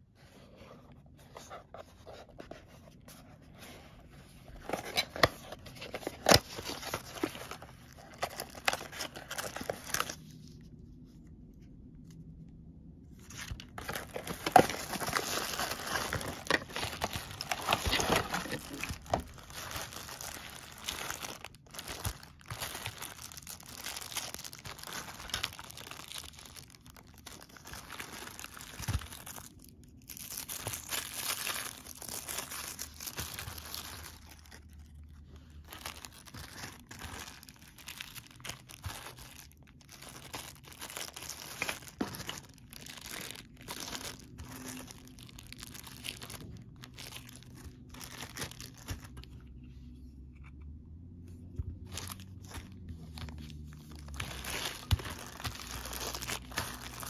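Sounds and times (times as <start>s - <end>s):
plastic bags crinkling: 4.5s - 10.6s, 13.2s - 49.3s, 51.8s - 57.0s.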